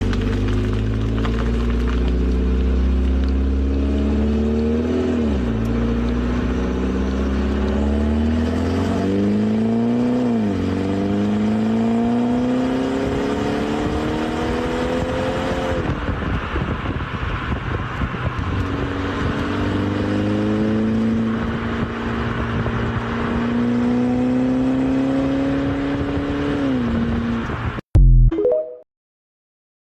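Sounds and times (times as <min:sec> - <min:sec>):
car engine accelerating: 0:00.0 - 0:27.8
road noise: 0:00.0 - 0:27.8.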